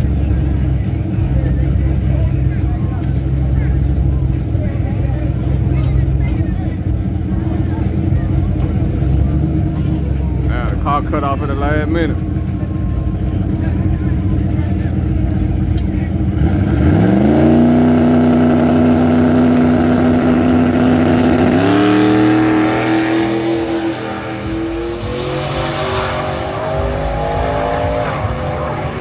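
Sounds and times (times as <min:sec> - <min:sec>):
drag car engine revving: 0:00.0 - 0:29.0.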